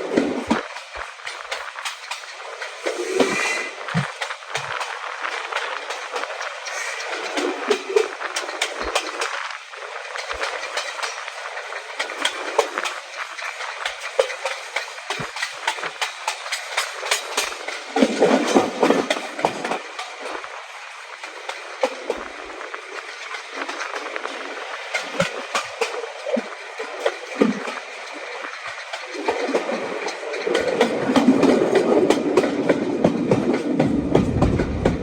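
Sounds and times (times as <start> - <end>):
train wheels clicking on rails: 0.0 - 35.0.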